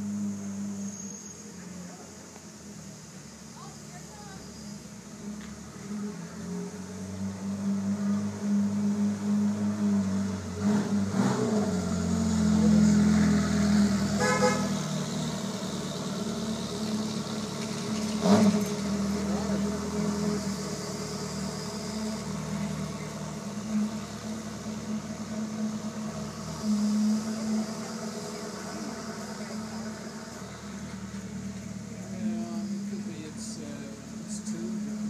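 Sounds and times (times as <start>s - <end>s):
car engine at low revs: 0.0s - 35.0s.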